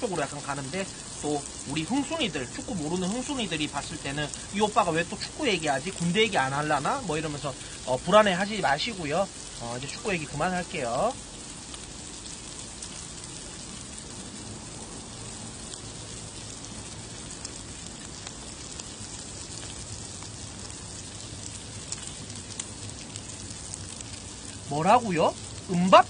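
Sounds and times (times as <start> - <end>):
faint crackles: 0.0 - 26.0
pork sizzling on grill: 0.0 - 26.0.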